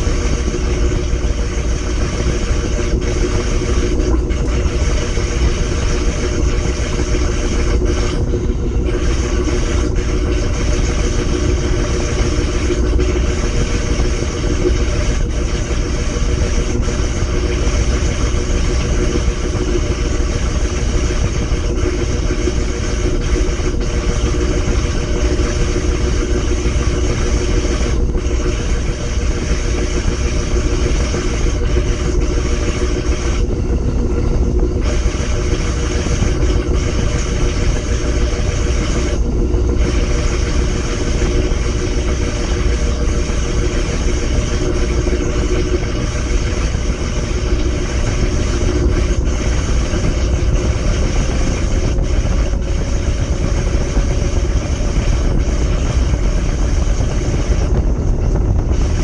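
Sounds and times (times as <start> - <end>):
washing machine motor whine: 0.0 - 59.0
washing machine rumble: 0.0 - 59.0.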